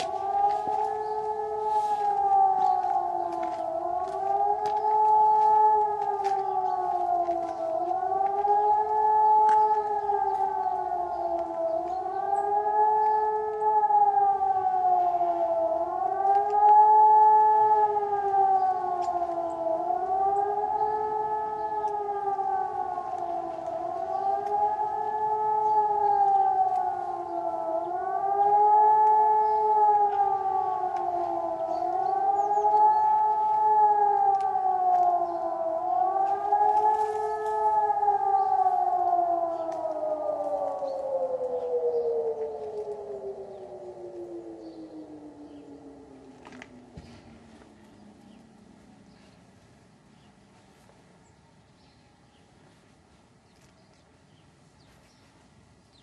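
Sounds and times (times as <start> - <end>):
distant wailing civil defence sirens: 0.0 - 56.0.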